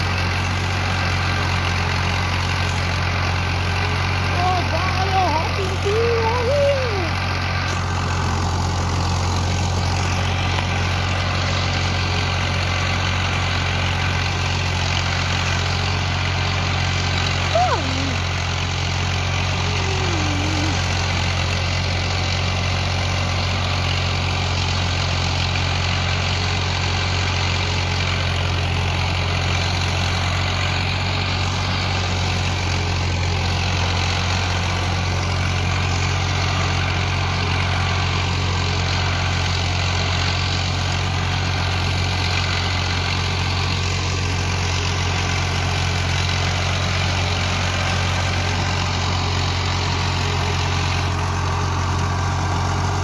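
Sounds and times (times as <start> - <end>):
tractor diesel engine droning: 0.0 - 53.0.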